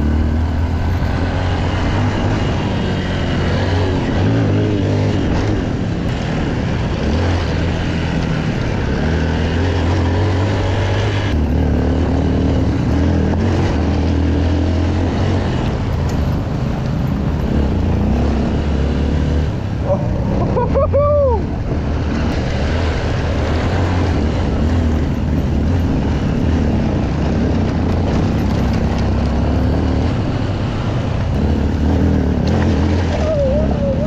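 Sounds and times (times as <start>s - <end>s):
motorcycle engine: 0.0s - 34.0s
tyre and wind noise: 0.0s - 34.0s.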